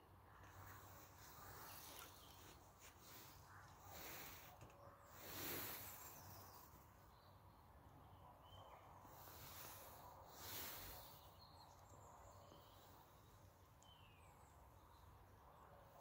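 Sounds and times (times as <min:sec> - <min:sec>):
soft rush of noise: 0:00.0 - 0:16.0
faint bird chirps: 0:00.4 - 0:16.0.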